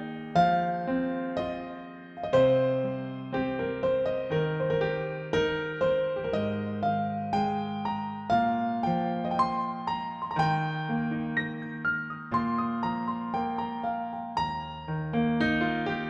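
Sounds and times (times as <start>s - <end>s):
gentle piano playing: 0.0s - 16.0s.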